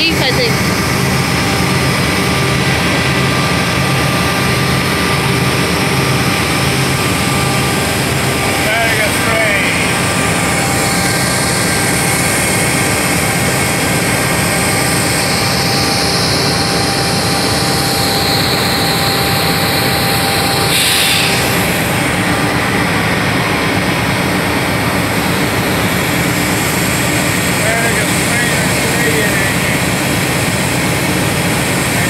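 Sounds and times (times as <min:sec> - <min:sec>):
diesel locomotive engine drone: 0:00.0 - 0:32.0.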